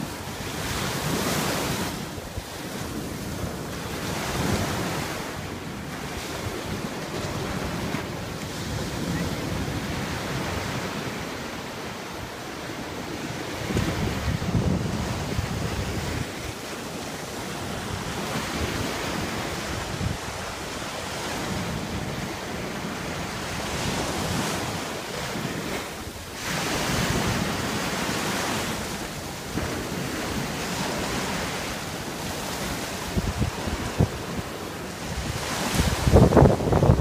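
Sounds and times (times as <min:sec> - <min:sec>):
small waves breaking on sand: 0:00.0 - 0:37.0
wind rumble on microphone: 0:00.0 - 0:37.0.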